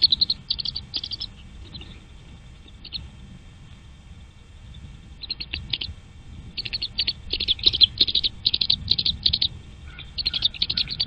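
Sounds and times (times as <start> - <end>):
nestling birds cheeping: 0.0 - 11.0.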